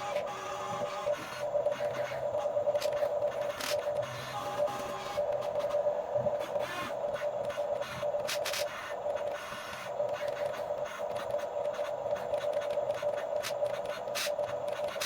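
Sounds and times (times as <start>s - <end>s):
toy excavator motors whirring: 0.0s - 5.8s, 6.4s - 15.0s.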